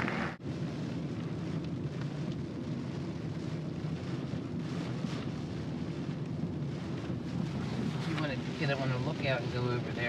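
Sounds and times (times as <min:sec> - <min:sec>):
car driving on wet road: 0:00.0 - 0:10.0
rain: 0:00.0 - 0:10.0.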